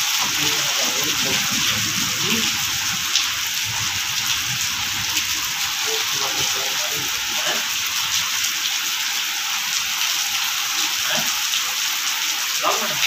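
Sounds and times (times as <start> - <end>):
heavy rain on paving: 0.0 - 13.0.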